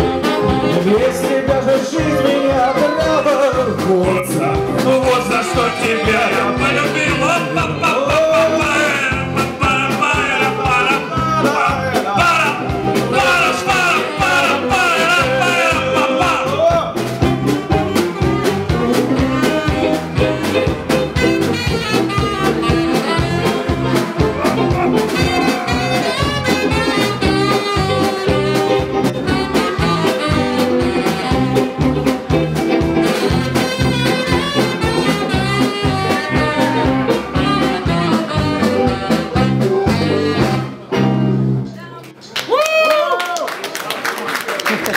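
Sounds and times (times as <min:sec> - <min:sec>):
saxophone melody: 0:00.0 - 0:41.7
live swing band playing: 0:00.0 - 0:42.3.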